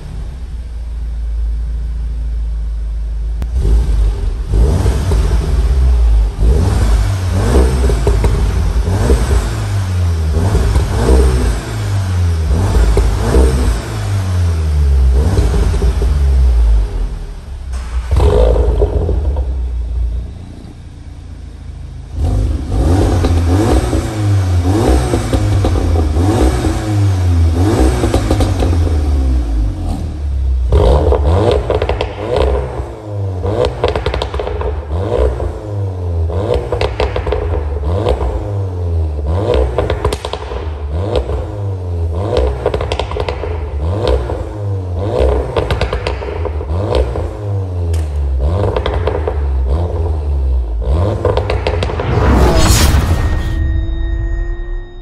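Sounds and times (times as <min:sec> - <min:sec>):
car engine revving: 0:02.7 - 0:55.0.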